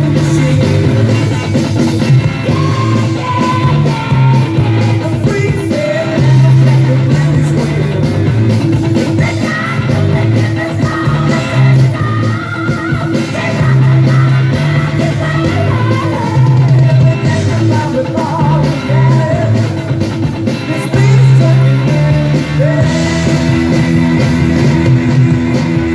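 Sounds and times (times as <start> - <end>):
pulsing bass line: 0.0 - 25.9
song with singing: 0.0 - 25.9.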